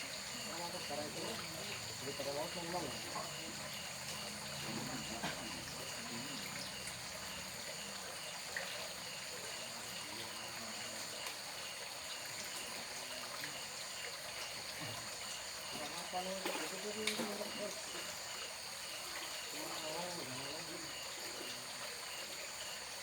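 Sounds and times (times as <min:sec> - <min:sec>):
water trickling: 0:00.0 - 0:23.0.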